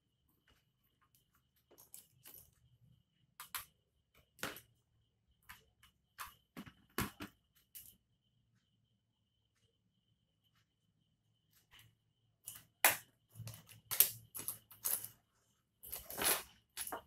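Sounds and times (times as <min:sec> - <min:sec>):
faint steady high tone: 0:00.0 - 0:17.0.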